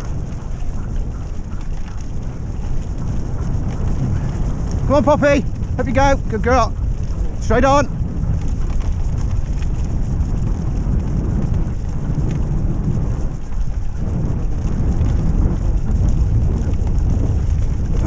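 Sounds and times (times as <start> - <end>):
wheels rolling along trail: 0.0 - 18.0
wind buffeting microphone: 0.0 - 18.0.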